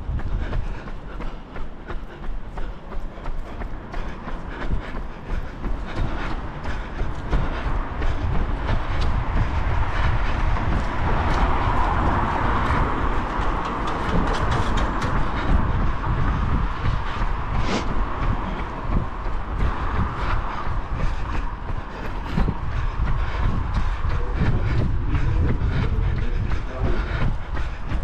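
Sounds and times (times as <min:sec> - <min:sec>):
footsteps on wet street: 0:00.0 - 0:28.0
low rumble: 0:00.0 - 0:28.0.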